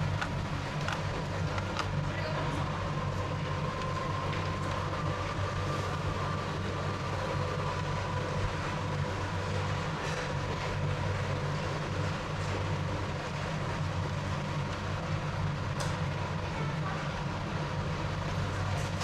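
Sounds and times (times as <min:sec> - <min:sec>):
low mechanical hum and rumble: 0:00.0 - 0:19.0.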